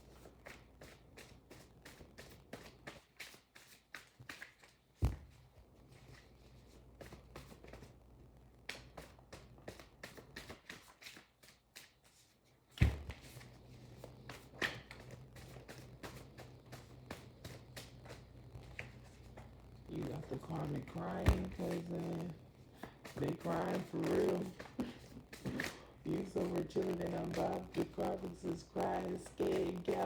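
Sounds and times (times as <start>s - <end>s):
cards being shuffled: 0.1s - 5.3s, 8.7s - 30.0s.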